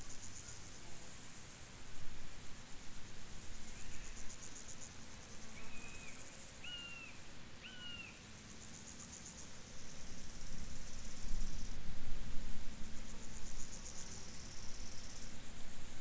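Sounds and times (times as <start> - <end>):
insects chirping trills: 0.1 - 11.9, 12.6 - 16.0.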